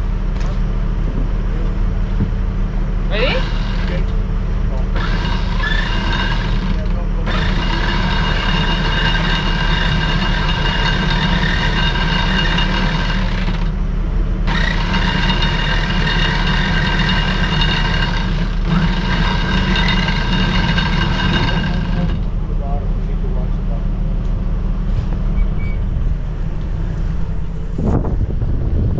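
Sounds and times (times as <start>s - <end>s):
high steady whine: 0.0s - 28.9s
low machinery drone: 0.0s - 28.9s.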